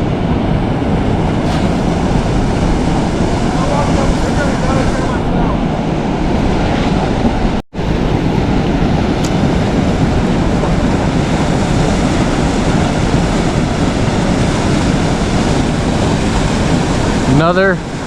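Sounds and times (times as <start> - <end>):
rushing river water: 0.0 - 18.0.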